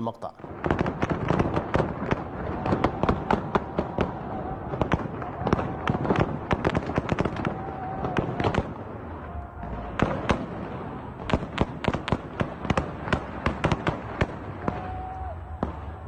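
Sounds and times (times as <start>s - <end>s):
heavy gunfire: 0.4s - 16.0s.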